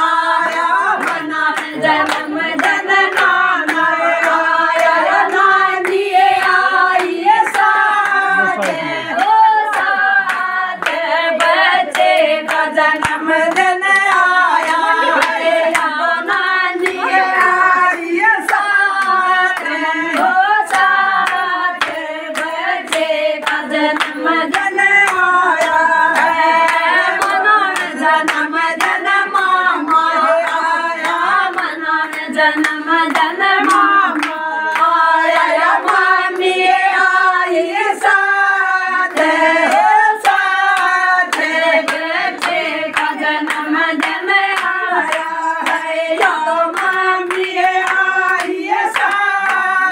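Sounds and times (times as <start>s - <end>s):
hands clapping to a beat: 0.0s - 49.9s
women singing devotional song: 0.0s - 49.9s.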